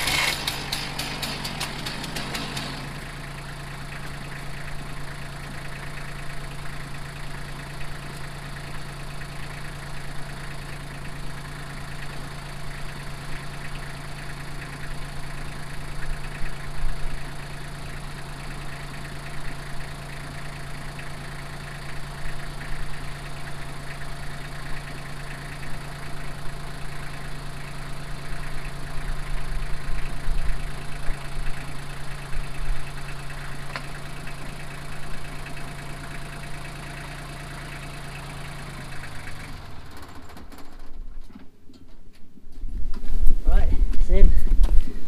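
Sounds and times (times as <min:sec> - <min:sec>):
tractor engine running: 0:00.0 - 0:42.2.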